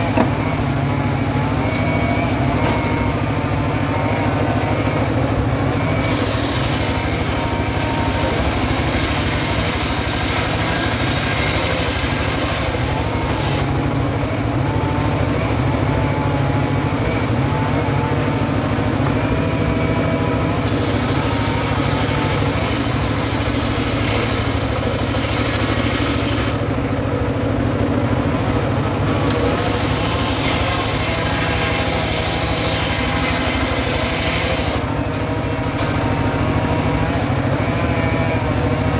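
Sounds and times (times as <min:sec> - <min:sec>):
log saw engine running: 0:00.0 - 0:38.9.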